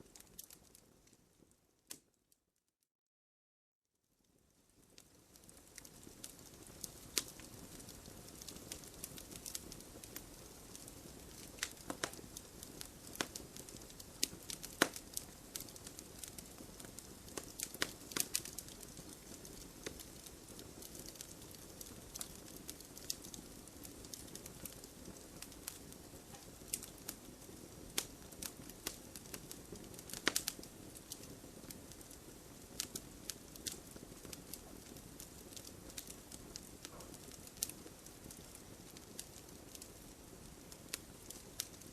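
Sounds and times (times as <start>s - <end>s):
wood fire crackling and popping: 0.0s - 2.1s, 4.6s - 41.9s.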